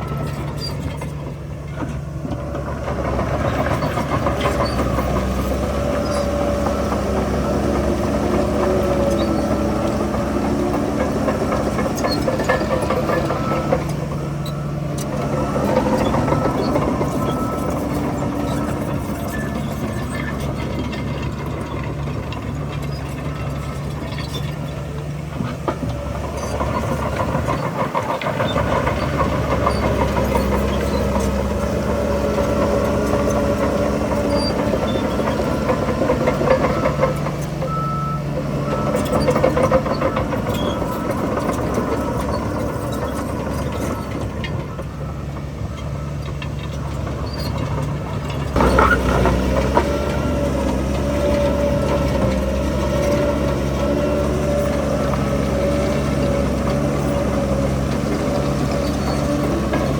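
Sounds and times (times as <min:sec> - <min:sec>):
heavy diesel engines working: 0:00.0 - 0:59.9.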